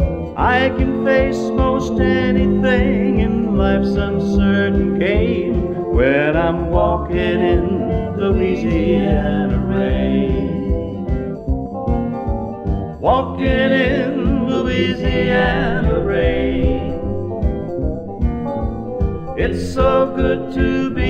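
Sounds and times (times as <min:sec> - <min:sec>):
country song on record: 0:00.0 - 0:21.0.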